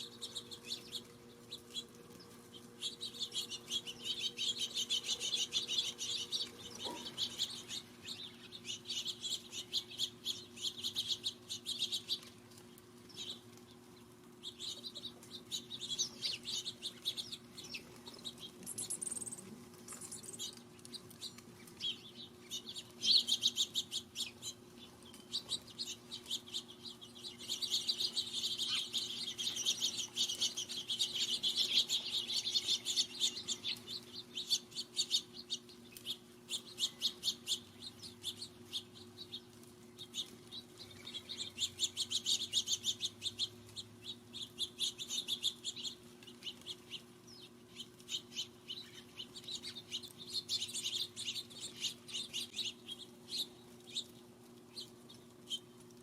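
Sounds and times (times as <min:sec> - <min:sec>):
faint low hum: 0:00.0 - 0:56.0
songbirds chirping: 0:00.0 - 0:56.0.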